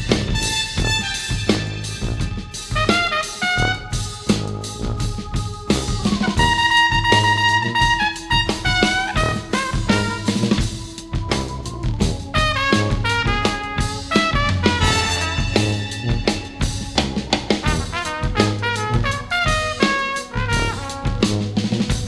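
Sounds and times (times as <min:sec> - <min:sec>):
busy drumming with rimshots: 0:00.0 - 0:22.0
jazz brass ensemble playing: 0:00.0 - 0:22.0.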